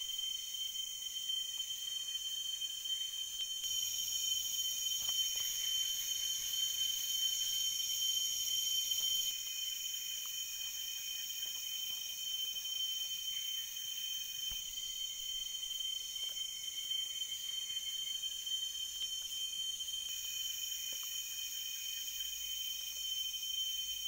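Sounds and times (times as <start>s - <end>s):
forest insects shrilling: 0.0s - 24.0s.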